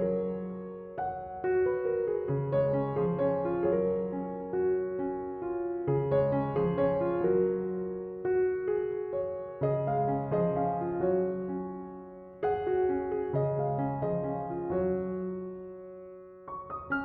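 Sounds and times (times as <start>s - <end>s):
piano-like keyboard melody: 0.0s - 17.0s.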